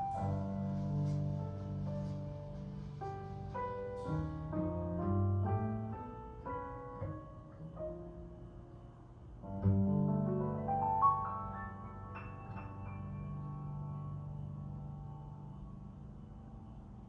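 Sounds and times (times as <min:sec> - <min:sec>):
jazz piano notes: 0:00.0 - 0:17.0.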